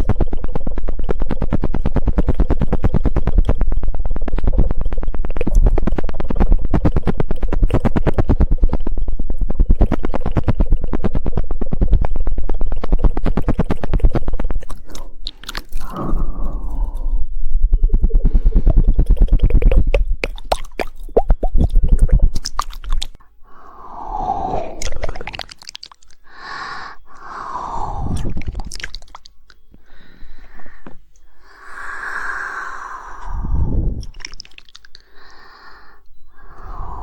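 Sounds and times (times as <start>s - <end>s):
wet mouth and lip sounds: 0.0s - 17.3s, 18.1s - 23.3s, 23.9s - 37.0s
rapid tongue clicks: 0.0s - 37.0s.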